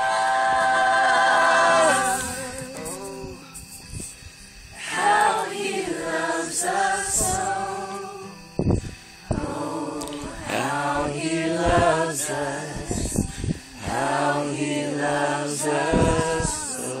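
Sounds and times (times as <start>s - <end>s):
group singing a cappella: 0.0s - 4.1s, 4.7s - 17.0s.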